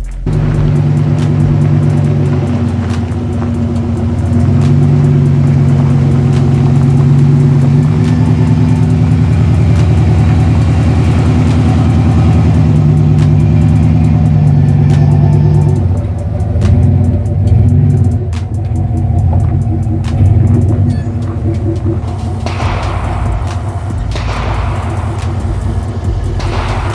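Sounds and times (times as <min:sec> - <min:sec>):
pickup truck engine under load: 0:00.0 - 0:26.9.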